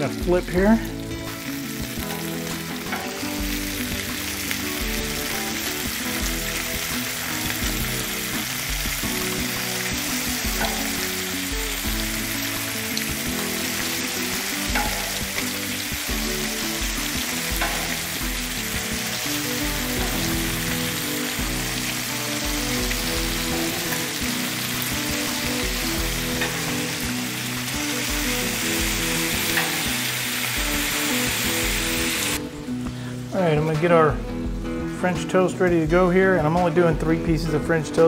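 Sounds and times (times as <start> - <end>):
bacon sizzling on a griddle: 0.0 - 32.4.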